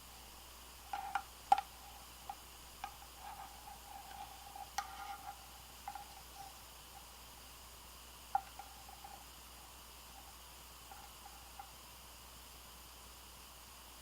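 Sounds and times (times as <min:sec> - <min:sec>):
faint metallic ringing: 0:00.0 - 0:12.2.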